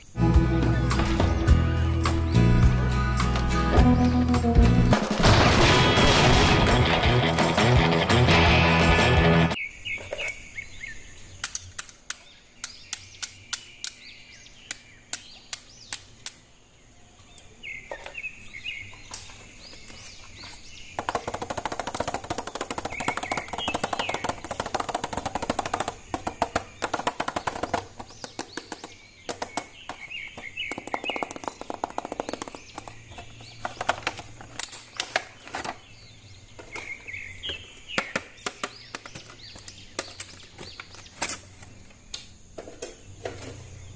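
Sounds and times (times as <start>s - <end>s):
birds chirping: 0.0s - 4.9s, 6.1s - 43.9s.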